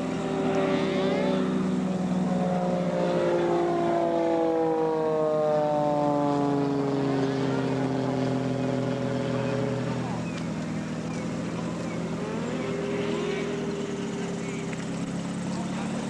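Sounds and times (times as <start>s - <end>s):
helicopter engine running: 0.0s - 16.0s.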